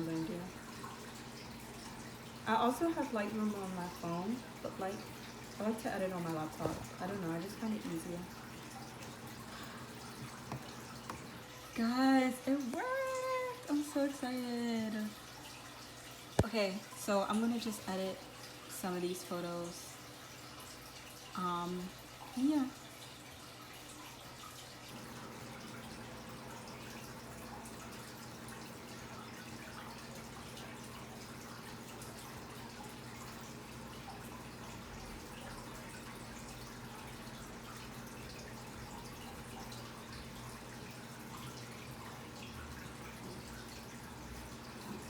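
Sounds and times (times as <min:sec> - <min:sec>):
low room hum: 0:00.0 - 0:45.0.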